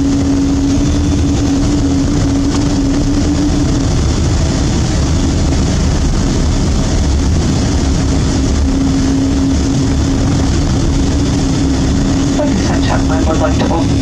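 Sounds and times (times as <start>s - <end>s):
aircraft engine noise: 0.0s - 14.0s
steady hum: 0.0s - 14.0s.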